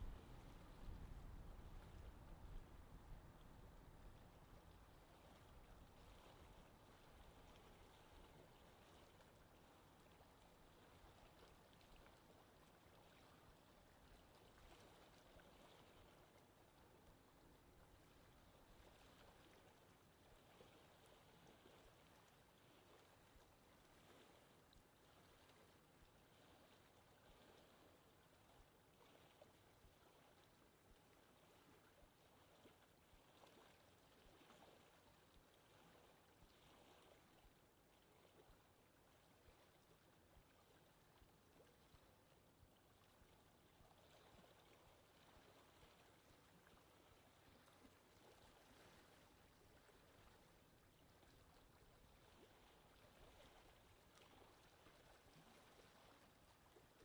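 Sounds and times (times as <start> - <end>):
soft steady wind: 0.0 - 57.0.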